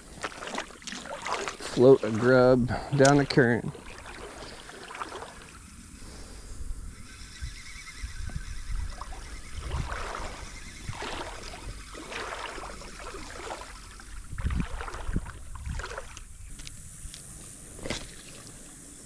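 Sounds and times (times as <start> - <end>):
creek water splashing: 0.0 - 19.0.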